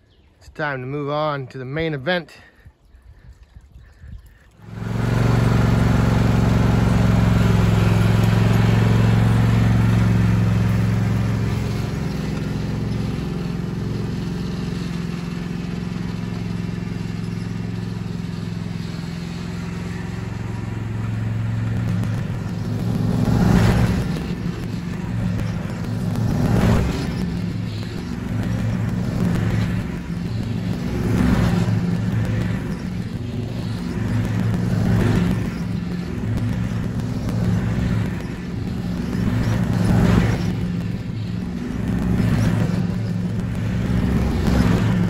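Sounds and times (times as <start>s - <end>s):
riding lawn mower engine: 3.9s - 45.0s
drag scraping over dirt: 4.6s - 45.0s.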